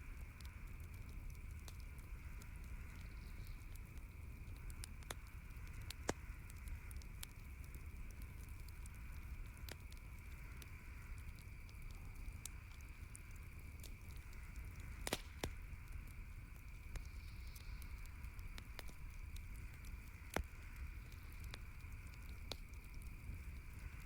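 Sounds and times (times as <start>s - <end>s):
campfire crackling and popping: 0.0s - 24.0s
low rumble and hiss: 0.0s - 24.0s.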